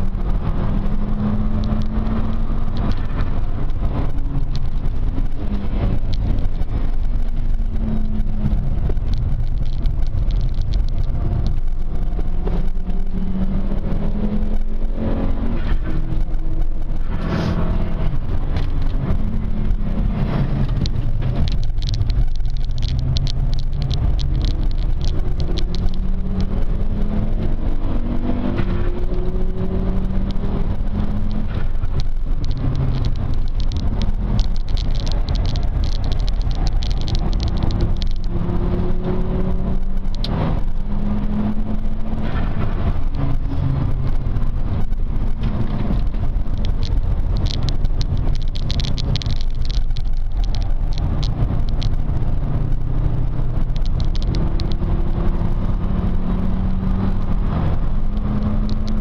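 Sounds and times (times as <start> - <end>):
car engine accelerating hard: 0.0 - 59.0
road noise rumble: 0.0 - 59.0.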